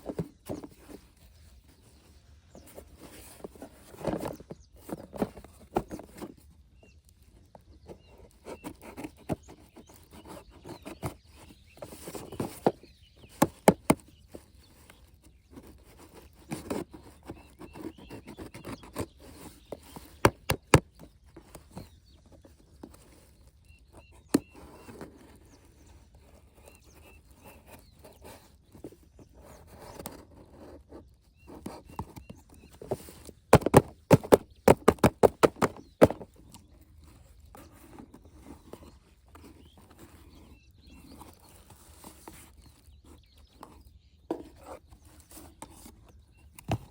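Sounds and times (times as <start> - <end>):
packaging rustling and scraping: 0.0 - 6.6, 8.2 - 46.9.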